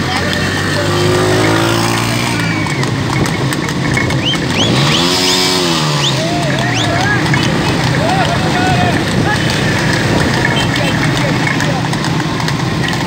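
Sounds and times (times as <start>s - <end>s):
motorcycle engines at speed: 0.0s - 13.0s
road noise: 0.0s - 13.0s.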